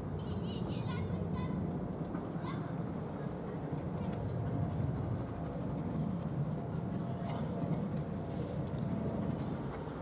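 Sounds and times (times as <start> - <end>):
distant steam train rumbling: 0.0 - 10.0.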